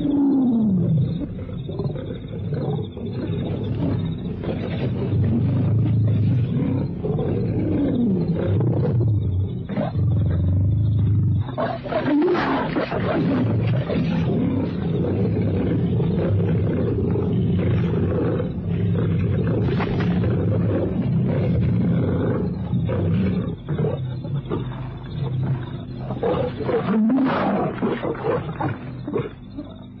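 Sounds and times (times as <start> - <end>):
lions growling and snarling: 0.0 - 30.0.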